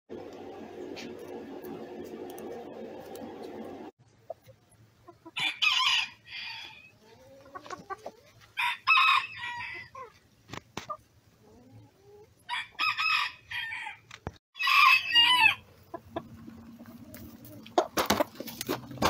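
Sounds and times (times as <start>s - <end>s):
chickens calling: 0.2s - 13.9s, 14.6s - 19.0s.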